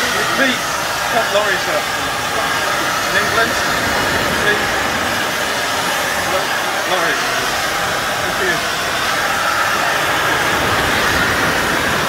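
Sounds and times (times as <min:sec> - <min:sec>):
faint voices: 0:00.0 - 0:12.0
loud rushing noise: 0:00.0 - 0:12.0.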